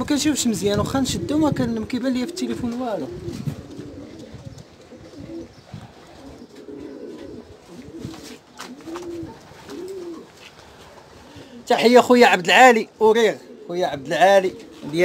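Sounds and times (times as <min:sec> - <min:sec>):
pigeons cooing: 0:00.8 - 0:15.0.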